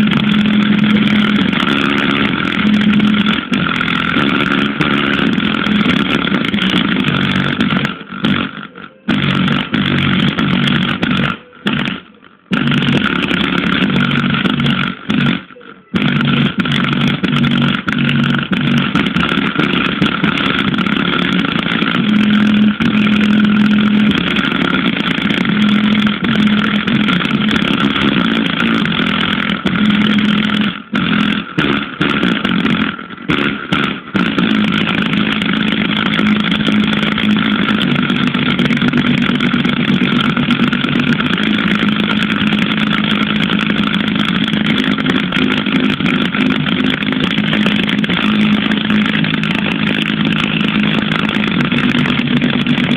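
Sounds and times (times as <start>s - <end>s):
distorted subwoofer bass: 0.0s - 52.9s.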